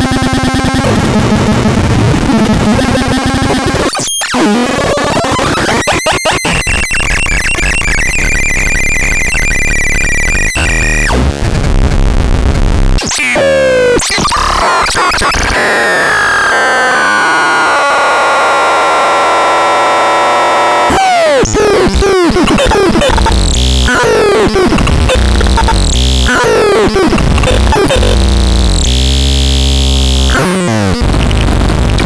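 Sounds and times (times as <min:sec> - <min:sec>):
synthesizer electronic tones: 0:00.0 - 0:11.3, 0:13.2 - 0:31.2.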